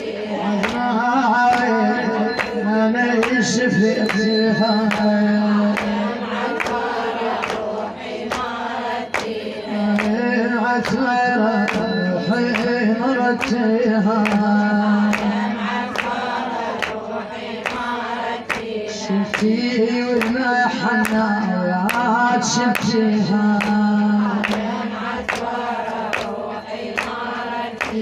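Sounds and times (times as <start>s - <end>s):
women singing a lament: 0.0s - 28.0s.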